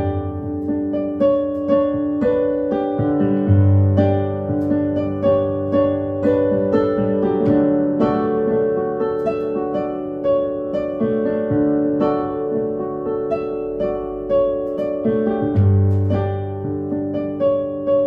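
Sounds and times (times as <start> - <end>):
sustained keyboard chords: 0.0 - 18.0.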